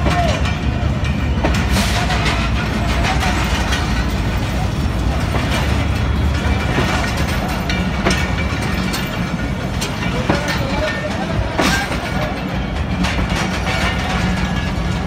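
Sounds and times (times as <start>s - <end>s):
train coaches rumbling past: 0.0s - 15.0s
wheels clanking over rail joints: 0.0s - 15.0s.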